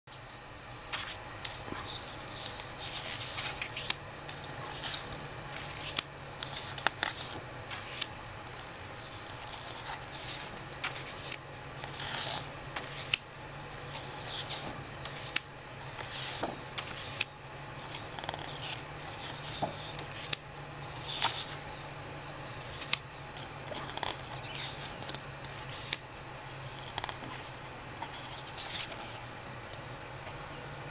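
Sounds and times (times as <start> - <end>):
steady low hum: 0.1 - 30.9
paper cards sliding and slapping: 0.9 - 13.3, 13.9 - 21.6, 22.2 - 29.4.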